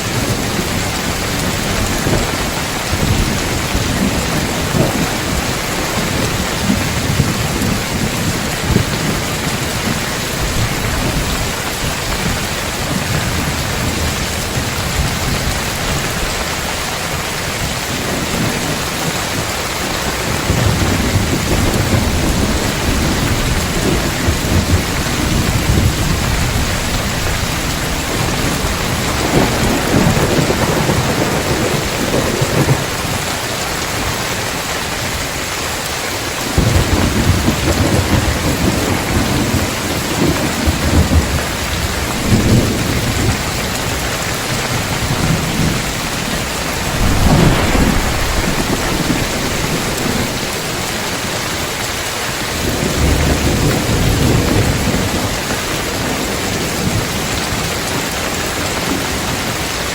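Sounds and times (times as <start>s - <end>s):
thunder rumbling: 0.0s - 16.8s, 17.9s - 35.2s, 36.6s - 55.4s
heavy rain on a tile roof: 0.0s - 59.9s.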